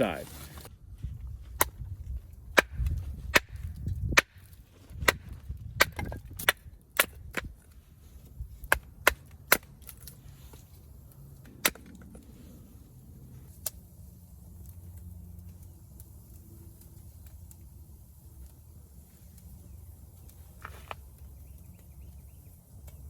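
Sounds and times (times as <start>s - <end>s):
campfire crackling and popping: 1.5s - 23.0s.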